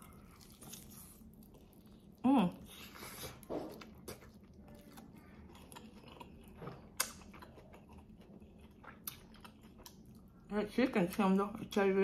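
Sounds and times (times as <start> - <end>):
person chewing food: 0.0 - 10.5.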